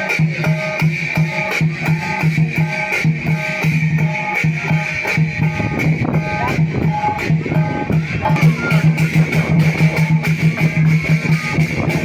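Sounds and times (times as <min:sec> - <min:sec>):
large drum beating: 0:00.0 - 0:12.0.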